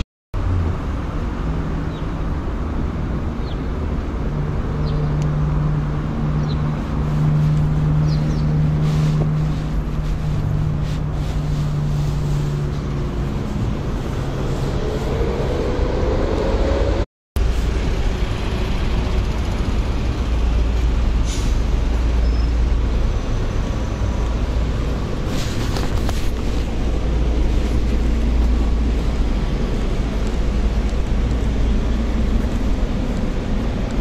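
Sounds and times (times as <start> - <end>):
low traffic rumble: 0.3 - 34.0
vehicle engine pulling away: 4.2 - 34.0.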